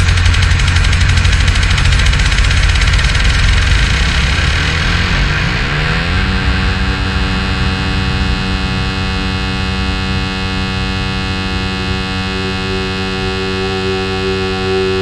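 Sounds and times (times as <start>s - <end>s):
electronic drone of held tones: 0.0s - 15.0s.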